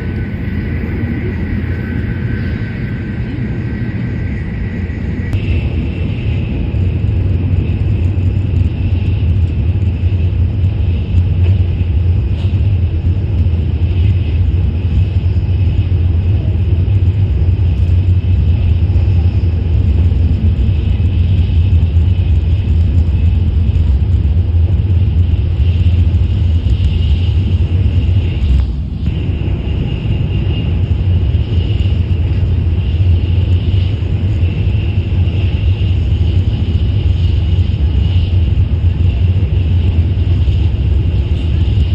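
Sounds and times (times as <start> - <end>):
high-speed train running: 0.0 - 41.9.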